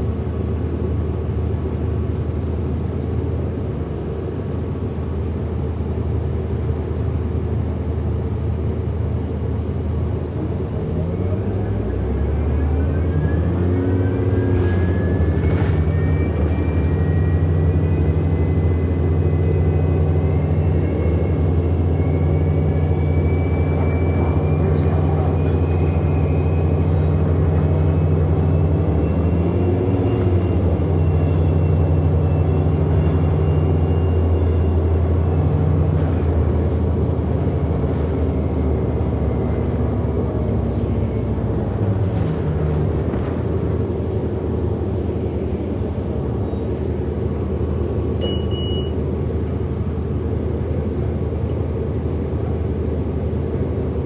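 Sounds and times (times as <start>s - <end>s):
bus drivetrain low hum: 0.0s - 54.0s.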